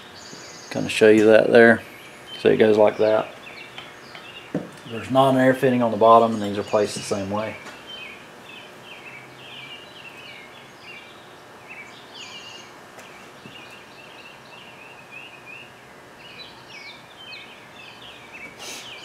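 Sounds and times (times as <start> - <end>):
faint steady hum: 0.0 - 19.0
songbirds chirping: 0.0 - 19.0.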